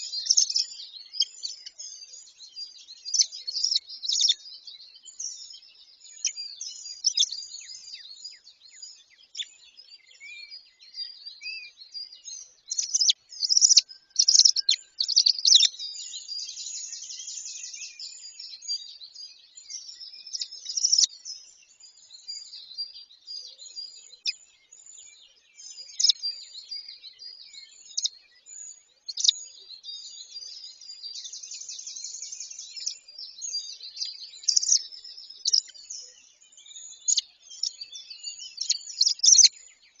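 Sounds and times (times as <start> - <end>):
birds chirping and calling: 0.0 - 40.0.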